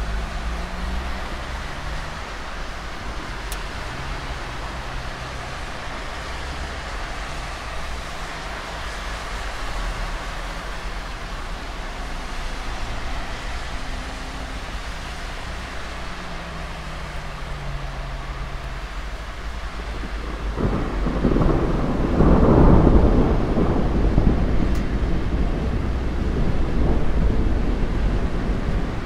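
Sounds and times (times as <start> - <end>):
low engine hum: 0.0 - 29.0
rain hiss: 0.0 - 29.0
tyres on wet road: 0.0 - 29.0.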